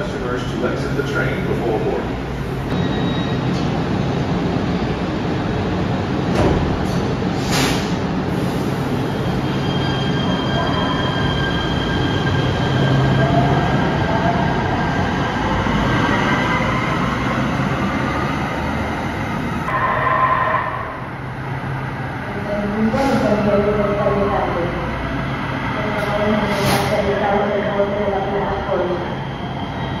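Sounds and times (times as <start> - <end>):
light rail train rumble and whine: 0.0 - 30.0
train approaching through tunnel: 0.0 - 30.0.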